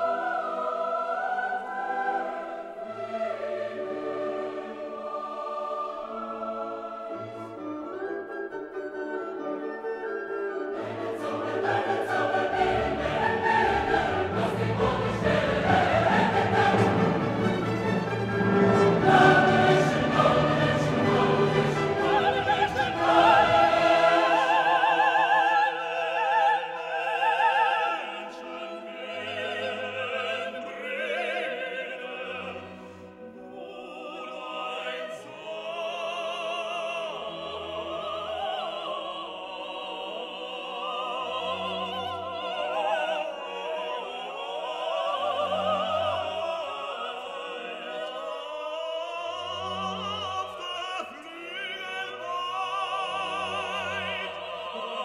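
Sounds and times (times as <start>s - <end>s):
operatic singing over orchestra: 0.0s - 10.0s, 10.6s - 55.0s.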